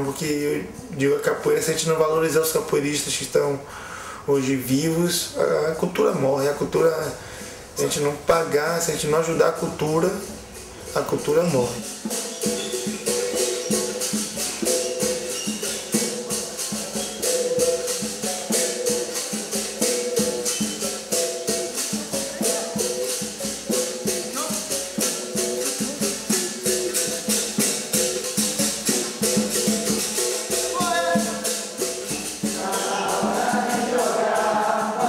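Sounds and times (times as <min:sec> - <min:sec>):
berimbau notes: 0:04.6 - 0:35.0
shaker rattle: 0:05.0 - 0:35.0.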